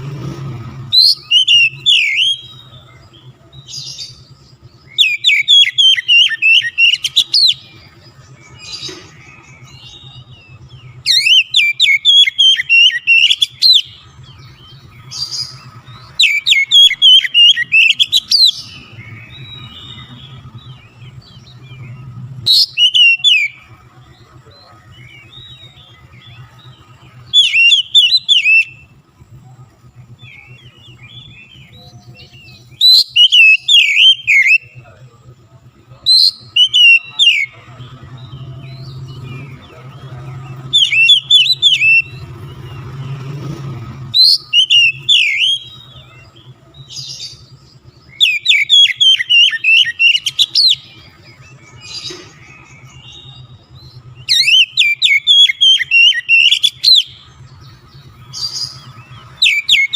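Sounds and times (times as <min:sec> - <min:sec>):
songbird whistling song: 0:00.0 - 0:59.9.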